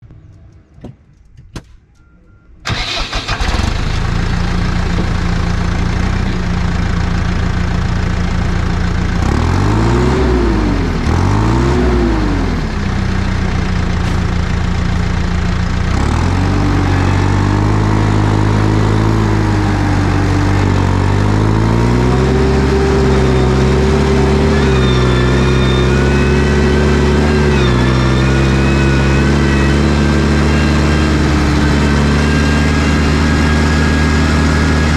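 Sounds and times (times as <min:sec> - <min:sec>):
tractor diesel engine: 0:02.6 - 0:34.9.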